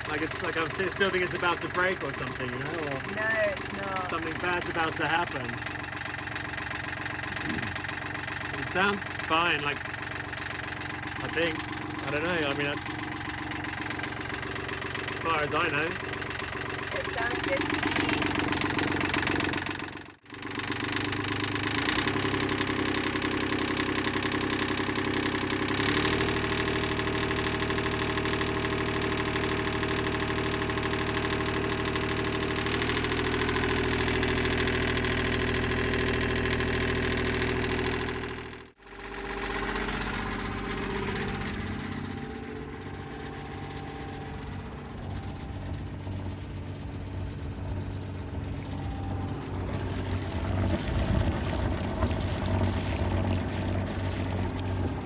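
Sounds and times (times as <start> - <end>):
marine diesel engine running: 0.0 - 55.0
quieter lower engine running: 0.0 - 55.0.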